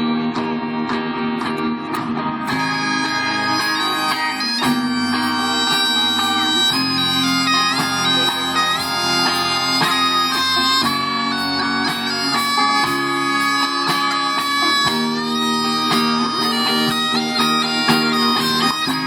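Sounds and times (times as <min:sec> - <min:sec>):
bagpipes playing melody: 0:02.4 - 0:19.0
regular drum beat: 0:02.4 - 0:19.0.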